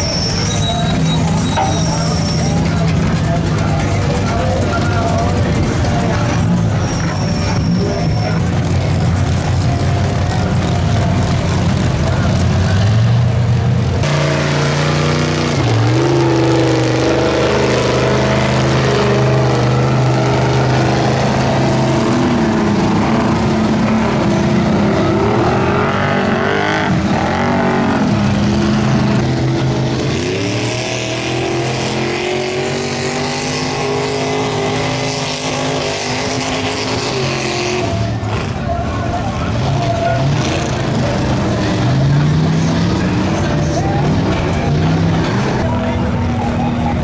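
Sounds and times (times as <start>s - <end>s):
off-road engines revving: 0.0s - 47.0s.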